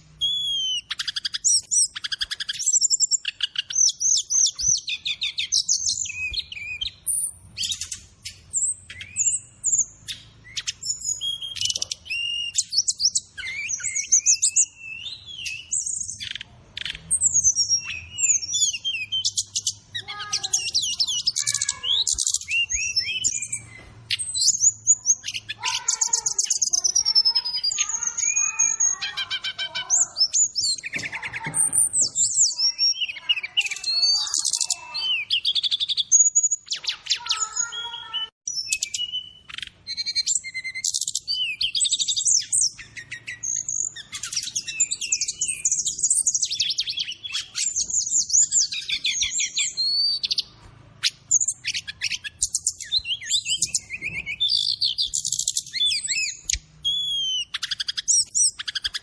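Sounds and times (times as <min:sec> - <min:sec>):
bird song with whistles and trills: 0:00.0 - 0:59.0.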